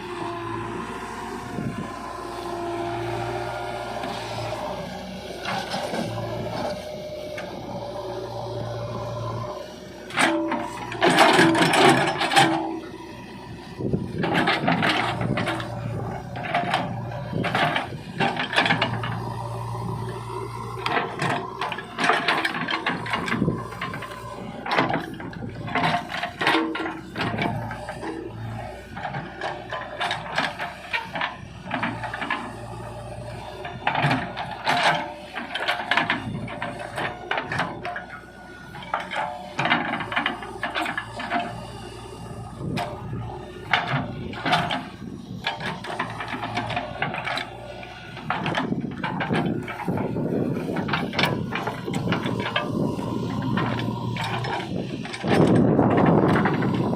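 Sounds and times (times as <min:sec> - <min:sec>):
diesel engine running: 0:00.0 - 0:56.9
clanks and knocks of digging gear: 0:03.4 - 0:56.9.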